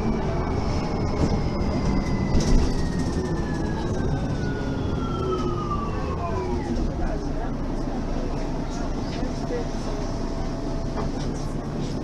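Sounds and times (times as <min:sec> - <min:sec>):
bus drivetrain whine: 0:00.0 - 0:12.0
engine and road rumble: 0:00.0 - 0:12.0.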